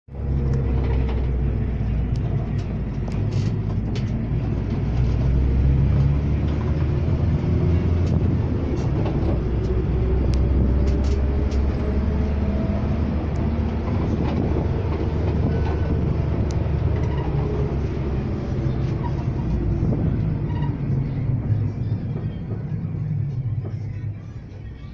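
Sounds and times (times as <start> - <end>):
bus engine and road drone: 0.0 - 24.9.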